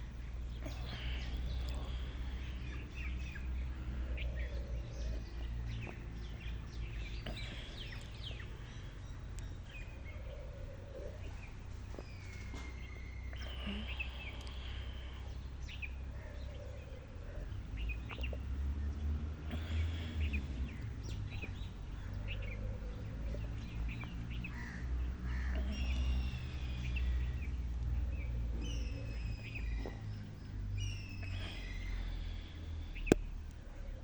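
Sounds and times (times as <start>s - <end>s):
birds chirping and whistling: 0.0s - 18.5s, 19.5s - 33.3s
steady low rumble: 0.0s - 34.0s.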